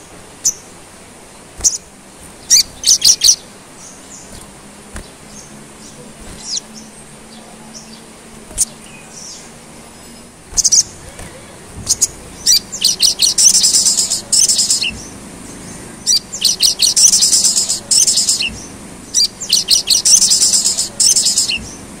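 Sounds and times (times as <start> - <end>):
sunbird chattering song: 0.0 - 22.0.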